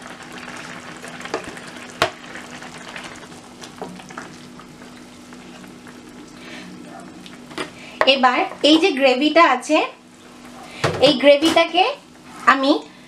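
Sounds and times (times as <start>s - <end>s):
gravy sizzling and bubbling: 0.0s - 13.0s.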